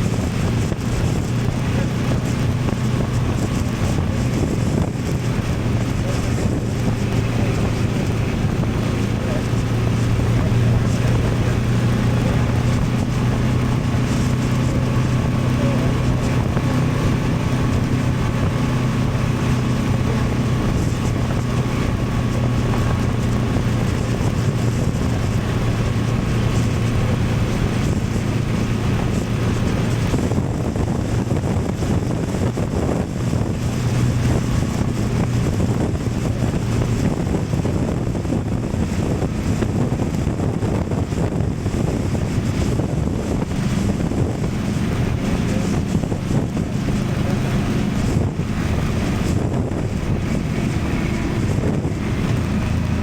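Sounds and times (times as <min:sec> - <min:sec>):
motorcycle engine cruising: 0:00.0 - 0:53.0
road noise: 0:00.0 - 0:53.0
wind rushing over microphone: 0:00.0 - 0:53.0.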